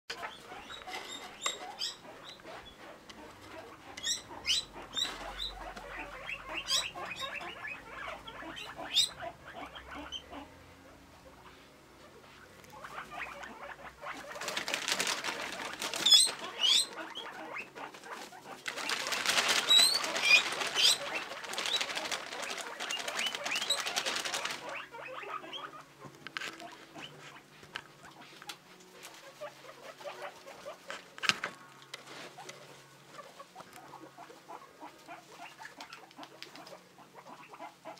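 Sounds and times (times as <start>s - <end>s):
guinea pigs wheeking: 0.1s - 37.9s.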